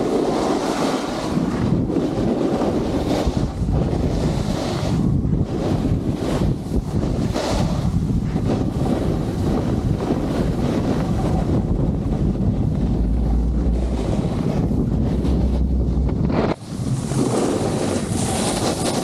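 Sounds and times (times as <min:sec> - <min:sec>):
wind buffeting camera microphone: 0:00.0 - 0:19.0.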